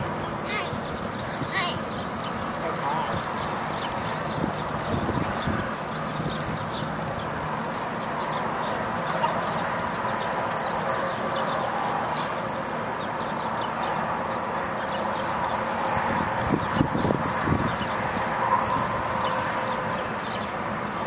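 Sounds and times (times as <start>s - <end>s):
small birds chirping faintly: 0.0s - 21.0s
steady outdoor hiss: 0.0s - 21.0s.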